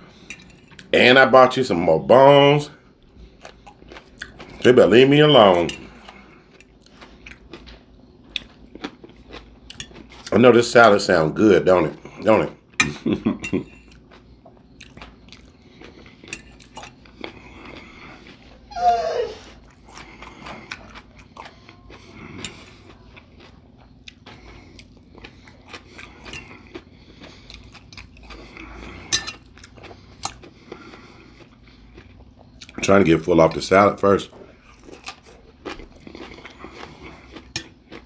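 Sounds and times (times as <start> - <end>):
chewing and crunching salad: 0.0 - 18.8, 19.4 - 38.0.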